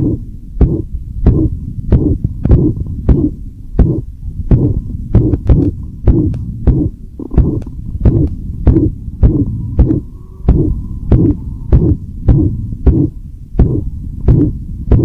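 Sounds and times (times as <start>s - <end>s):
dog heartbeat through stethoscope: 0.0s - 15.0s
heart murmur noise: 0.0s - 15.0s.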